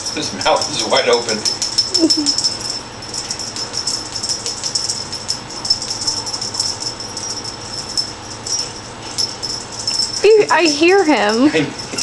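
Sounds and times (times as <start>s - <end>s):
fast jingling rattle: 0.0s - 12.0s.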